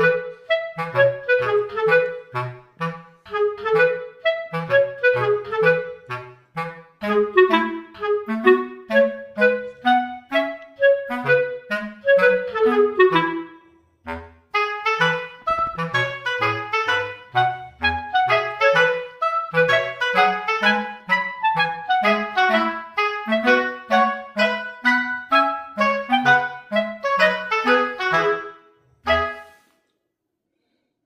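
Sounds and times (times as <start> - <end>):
bouncy woodwind music: 0.0 - 29.8.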